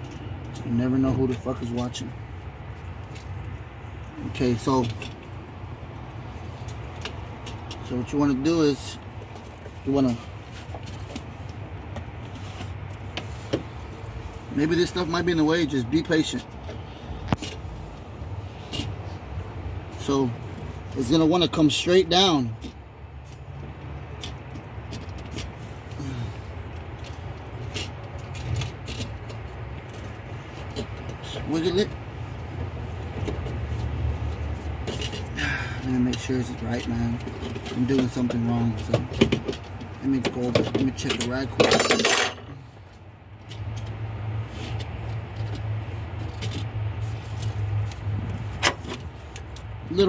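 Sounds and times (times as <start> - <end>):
light clicks and scrapes: 6.2 - 50.0.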